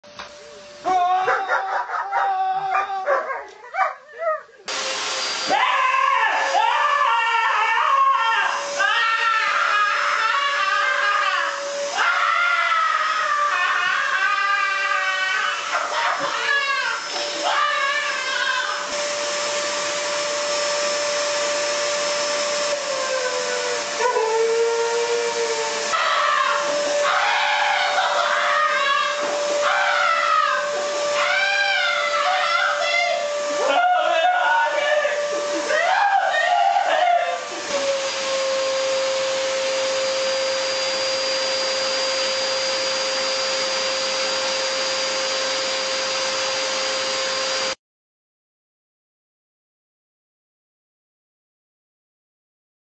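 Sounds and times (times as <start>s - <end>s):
vacuum cleaner whining: 0.0s - 47.8s.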